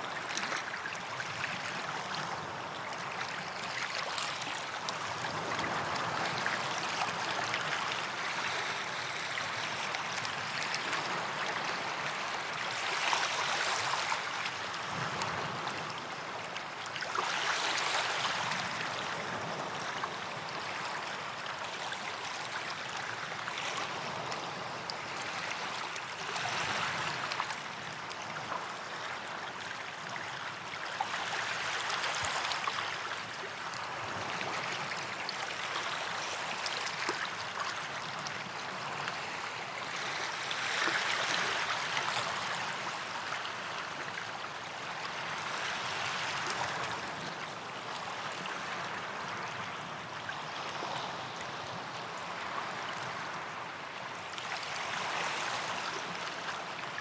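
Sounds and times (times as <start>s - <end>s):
small waves washing onto sand: 0.0s - 57.0s.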